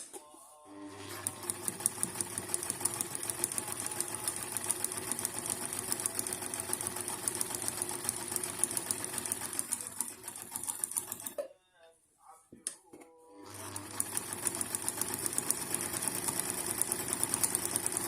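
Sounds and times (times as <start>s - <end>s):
sewing machine running: 0.8s - 11.4s, 13.4s - 18.0s.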